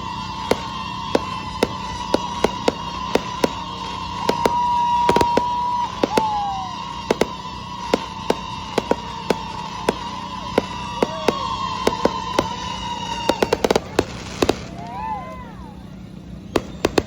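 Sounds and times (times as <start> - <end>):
falling whistle: 0.0 - 17.0
fireworks bursting: 0.0 - 17.0.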